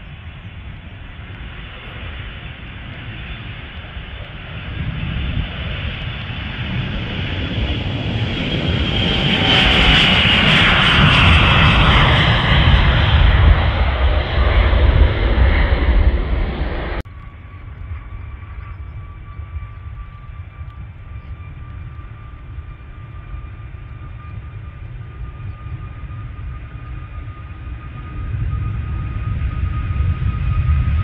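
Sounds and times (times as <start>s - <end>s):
distant jet rumble and whine: 0.0s - 31.0s
jet engines roaring: 0.0s - 31.0s.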